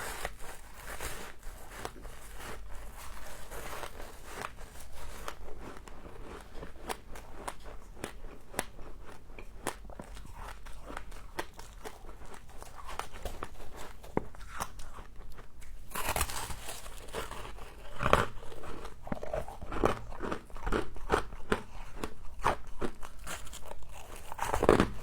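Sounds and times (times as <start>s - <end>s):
frost crunching while chewed: 0.0s - 25.0s.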